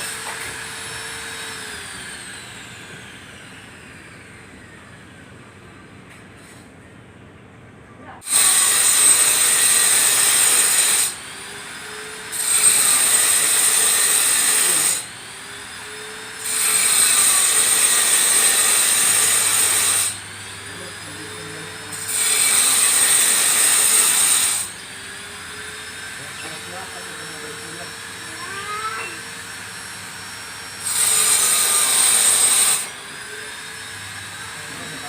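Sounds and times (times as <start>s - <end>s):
grinder cutting ceramic tile: 0.0s - 3.2s, 8.2s - 35.0s
grinder whining free: 0.0s - 5.7s, 8.2s - 35.0s.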